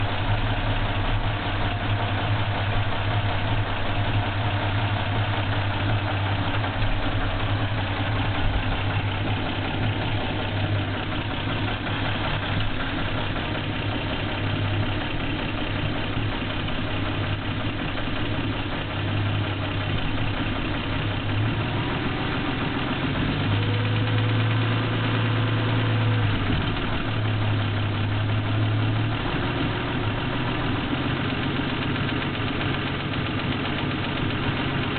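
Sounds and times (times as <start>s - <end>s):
engine idling with knock: 0.0s - 34.9s.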